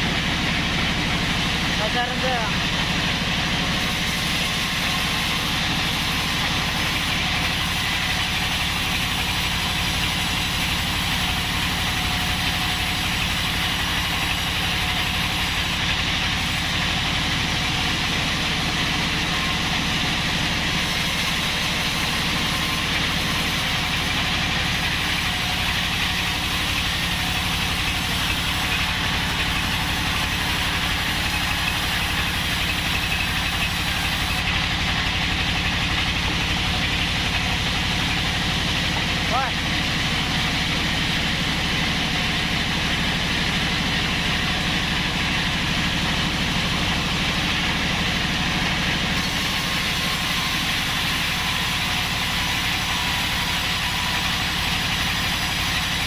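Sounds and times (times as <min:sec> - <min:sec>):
band sawmill drone: 0:00.0 - 0:56.0.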